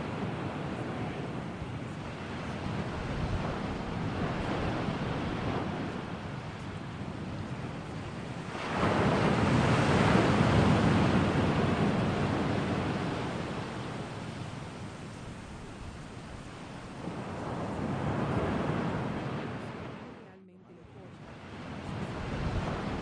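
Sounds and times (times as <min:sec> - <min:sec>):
ocean surf washing: 0:00.0 - 0:23.0
wave surging: 0:00.0 - 0:23.0.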